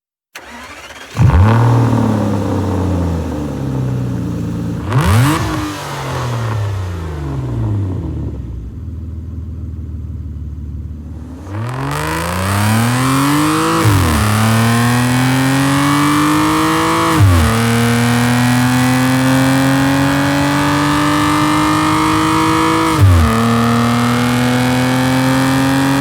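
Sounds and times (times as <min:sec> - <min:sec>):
car engine revving: 0:00.4 - 0:26.0.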